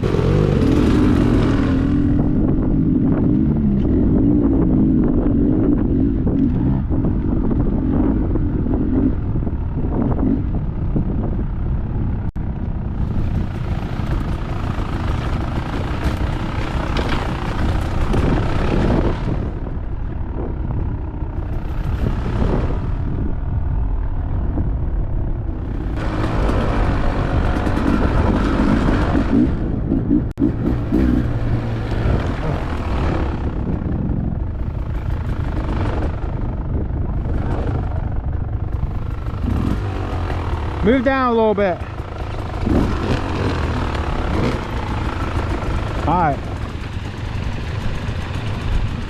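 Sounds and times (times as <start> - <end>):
dirt bike engine revving: 0.0 - 9.2, 13.2 - 19.8, 25.5 - 49.0.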